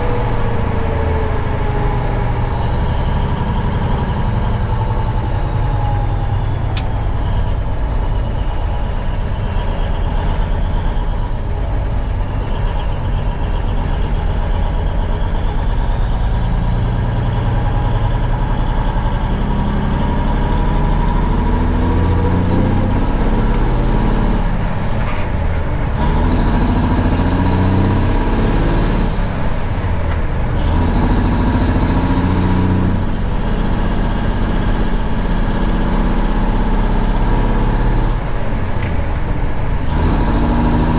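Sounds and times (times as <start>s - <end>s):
diesel truck engine under load: 0.0s - 40.9s.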